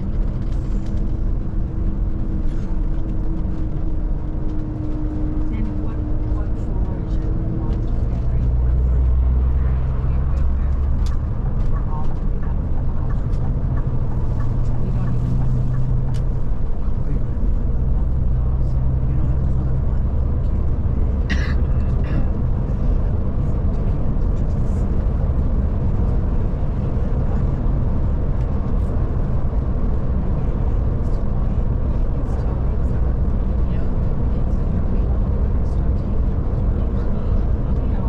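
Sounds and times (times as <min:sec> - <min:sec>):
diesel engine drone: 0:00.0 - 0:38.0
road noise: 0:00.0 - 0:38.0.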